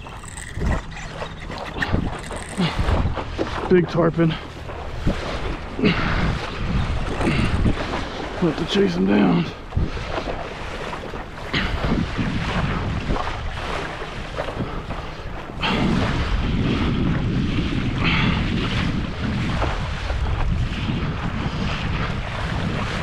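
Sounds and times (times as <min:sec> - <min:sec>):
water sloshing around kayak: 0:00.0 - 0:23.0
wind buffeting microphone: 0:00.0 - 0:23.0.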